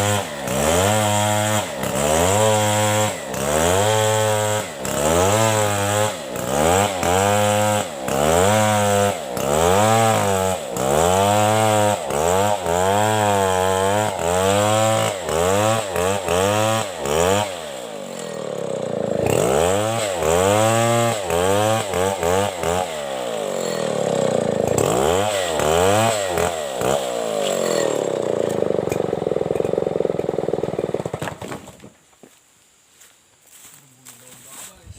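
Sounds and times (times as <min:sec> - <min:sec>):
chainsaw cutting wood: 0:00.0 - 0:32.0.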